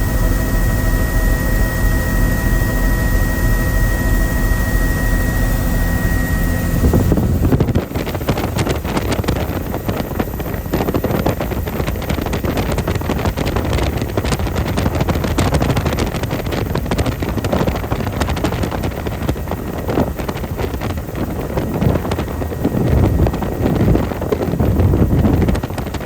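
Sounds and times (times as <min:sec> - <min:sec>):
helicopter rotor and engine: 0:00.0 - 0:26.0
wind buffeting microphone: 0:00.0 - 0:26.0.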